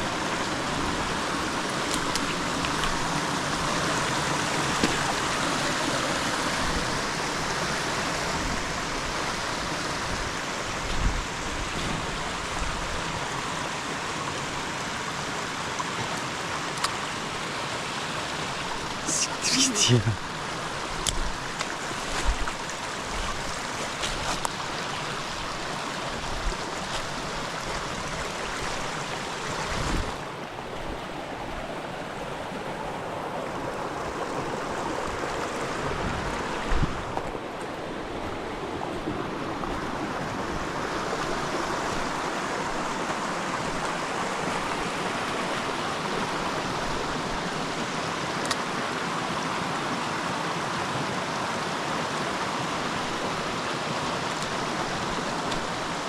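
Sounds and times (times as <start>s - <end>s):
creek water running: 0.0s - 56.0s.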